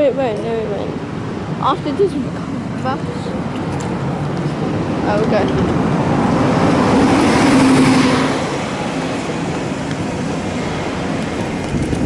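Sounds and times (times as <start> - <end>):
traffic rumble: 0.0 - 12.0
vehicle passing close: 0.2 - 12.0.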